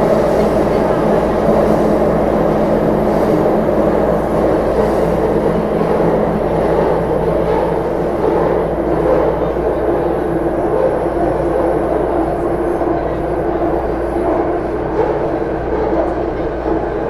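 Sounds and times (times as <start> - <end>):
steady train motor hum: 0.0 - 17.0
wheel and rail running noise: 0.0 - 17.0.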